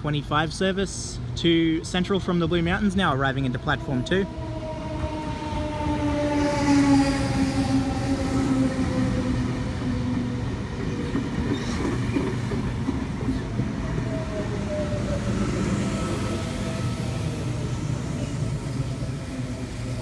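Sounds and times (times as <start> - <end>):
electric train pulling into station: 0.4 - 20.0.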